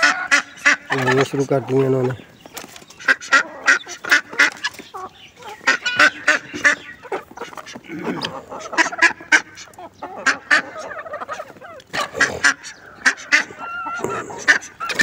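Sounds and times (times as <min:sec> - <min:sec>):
chickens clucking: 0:00.0 - 0:15.0
ducks calling: 0:00.0 - 0:15.0
guinea fowl sharp calls: 0:00.0 - 0:15.0.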